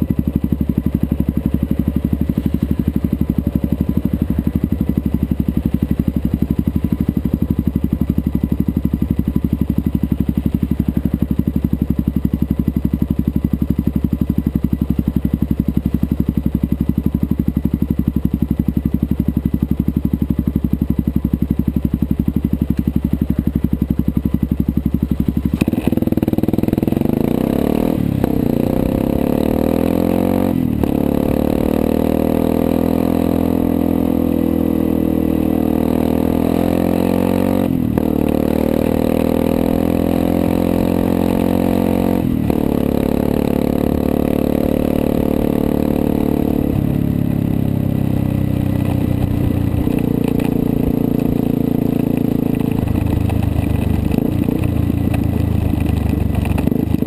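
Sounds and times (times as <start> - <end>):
motorcycle accelerating through gears: 0.0 - 57.0
motorcycle engine idling: 0.0 - 57.0.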